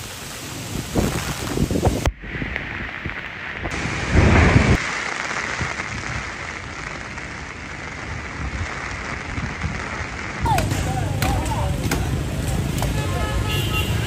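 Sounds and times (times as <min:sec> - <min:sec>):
rush of wind: 0:00.0 - 0:13.4
heavy rain pouring: 0:00.0 - 0:14.0.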